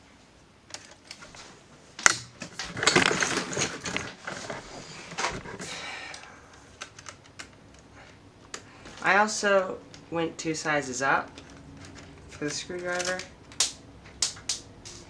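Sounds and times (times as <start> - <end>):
tools clattering: 0.7 - 10.2, 11.0 - 15.0.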